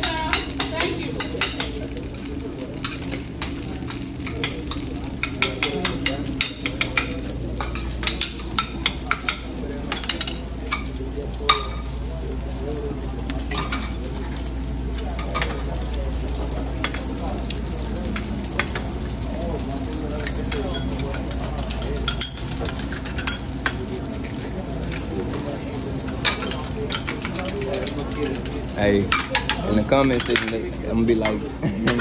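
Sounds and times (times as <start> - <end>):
food sizzling on griddle: 0.0 - 32.0.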